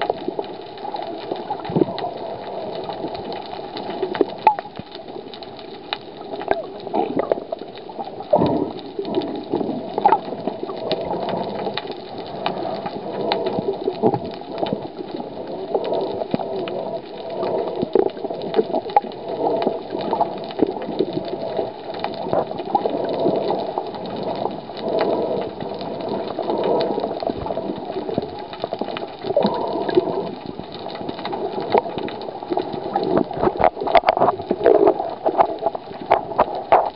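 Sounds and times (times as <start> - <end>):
muffled water sloshing and gurgling: 0.0 - 36.9.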